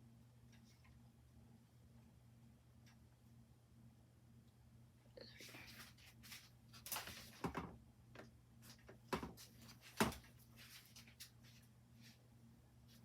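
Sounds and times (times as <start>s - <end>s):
faint ceiling fan hum: 0.0s - 13.0s.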